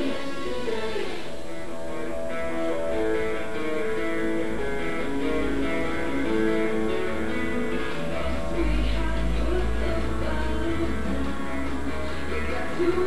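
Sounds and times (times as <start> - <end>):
guitar music on radio: 0.0 - 13.0.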